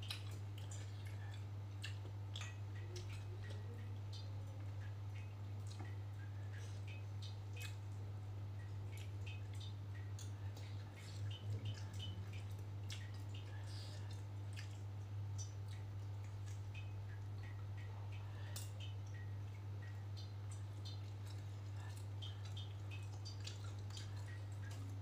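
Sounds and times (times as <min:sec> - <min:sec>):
wet chewing and lip smacks: 0:00.0 - 0:08.0, 0:08.6 - 0:25.0.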